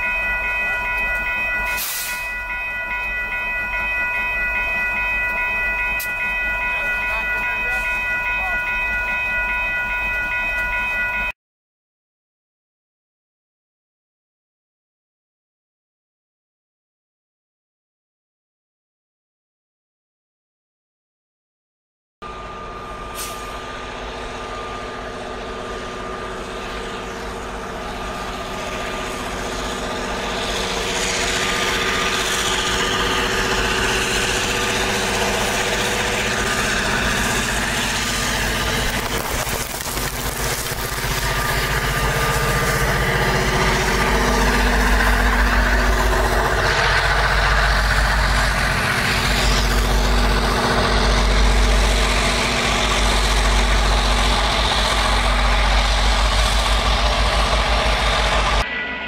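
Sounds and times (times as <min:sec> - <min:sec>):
diesel locomotive engines: 0:00.0 - 0:11.3, 0:22.2 - 0:59.0.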